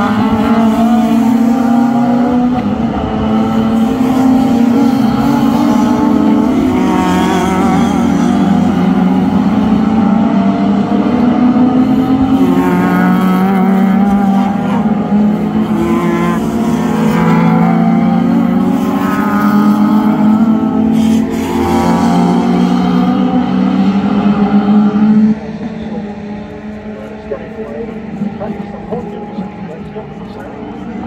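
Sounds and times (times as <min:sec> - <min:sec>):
car accelerating through gears: 0:00.0 - 0:31.0
race car engines droning: 0:00.0 - 0:31.0
race car passing close by: 0:00.0 - 0:31.0.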